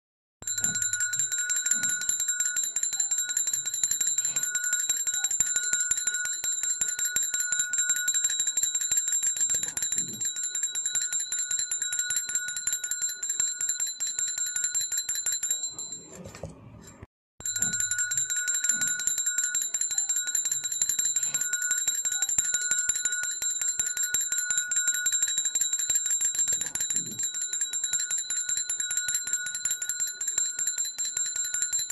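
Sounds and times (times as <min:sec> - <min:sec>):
cow bell shaken rapidly: 0:00.5 - 0:16.0, 0:17.5 - 0:31.9.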